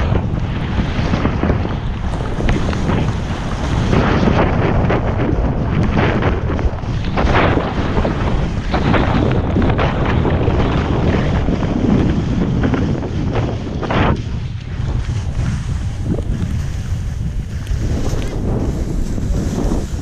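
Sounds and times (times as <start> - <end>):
skis scraping on snow: 0.0 - 20.0
wind buffeting microphone: 0.0 - 20.0.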